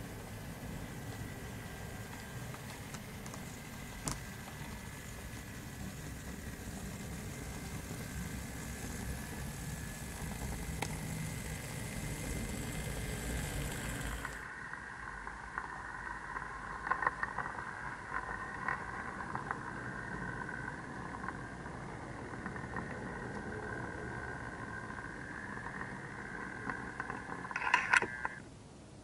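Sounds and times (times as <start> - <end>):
model train rumbling: 0.0 - 27.7
wheels clicking on rails: 0.0 - 28.4
running hum: 0.0 - 28.9.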